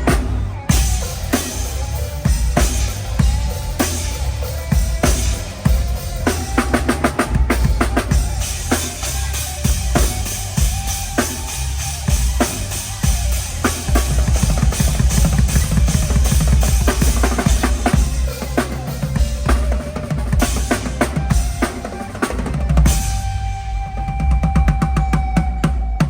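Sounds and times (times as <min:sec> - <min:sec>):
drum kit through loudspeakers: 0:00.0 - 0:26.0.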